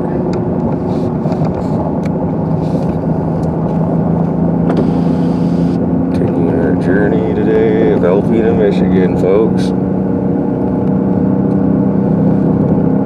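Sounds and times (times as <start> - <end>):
car engine hum: 0.0 - 13.0
tyres rumbling on snowy road: 0.0 - 13.0.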